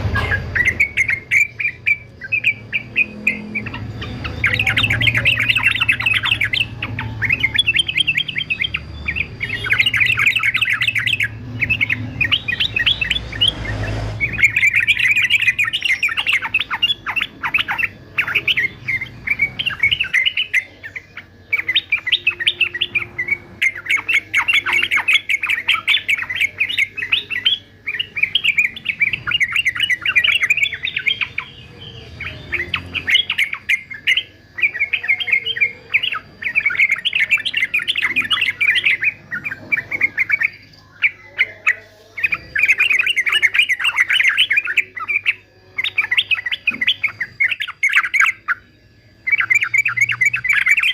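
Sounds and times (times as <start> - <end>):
bird singing chattering song: 0.0 - 50.9.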